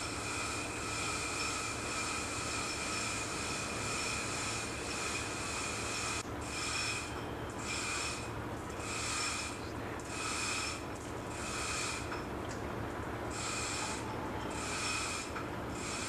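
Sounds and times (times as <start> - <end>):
engine room machinery hum: 0.0 - 16.0
high machinery whine: 0.0 - 16.0.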